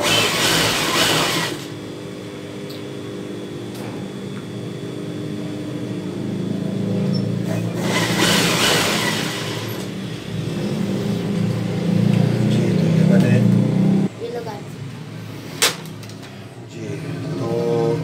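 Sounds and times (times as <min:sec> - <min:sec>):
low motor hum: 0:00.0 - 0:15.5.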